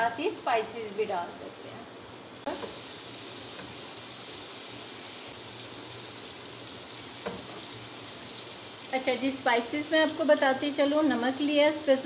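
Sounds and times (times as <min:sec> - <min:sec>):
tomato paste sizzling in oil: 0:00.0 - 0:12.0.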